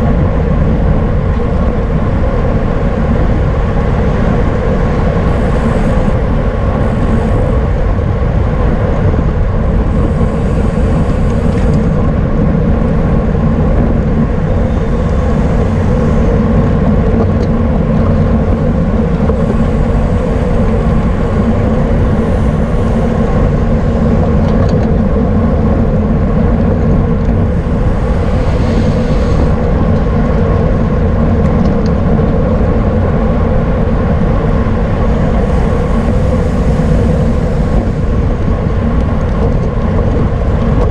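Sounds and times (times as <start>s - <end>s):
wind and road rush on microphone: 0.0s - 40.9s.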